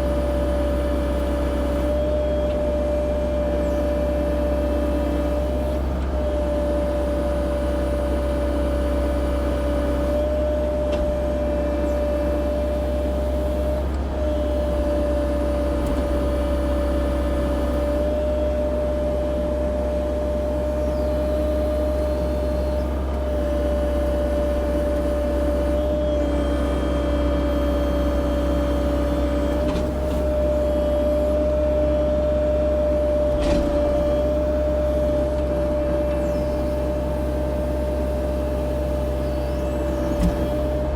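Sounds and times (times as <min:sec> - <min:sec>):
diesel engine drone with whine: 0:00.0 - 0:40.9.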